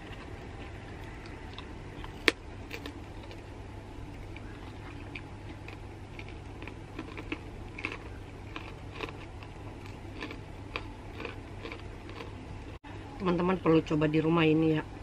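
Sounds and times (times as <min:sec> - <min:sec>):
person chewing food: 0:00.0 - 0:12.8
steady low hum: 0:00.0 - 0:15.0.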